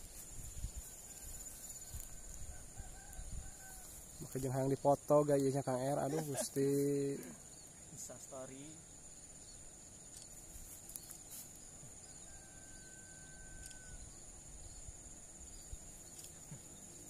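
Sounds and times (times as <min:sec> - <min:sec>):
high-pitched insect buzz: 0:00.0 - 0:17.0.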